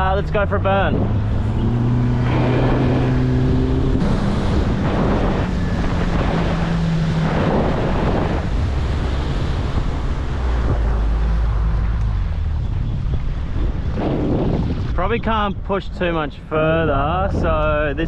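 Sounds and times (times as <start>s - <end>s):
outboard motor running: 0.0s - 14.9s
wind buffeting microphone: 0.0s - 18.0s
water rushing past hull: 0.2s - 15.4s.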